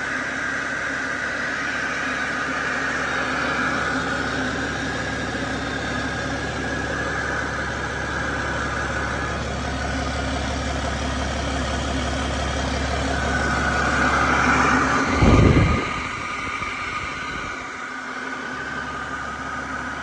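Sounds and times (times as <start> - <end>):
diesel engine idling: 0.0 - 20.0
high whine: 0.0 - 20.0.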